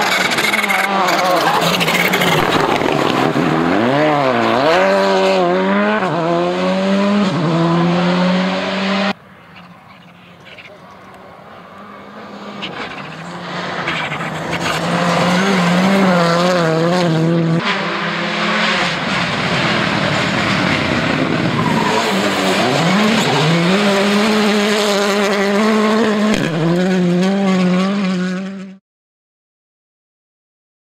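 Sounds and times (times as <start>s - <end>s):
rally car engines revving hard: 0.0s - 9.2s, 11.0s - 28.8s.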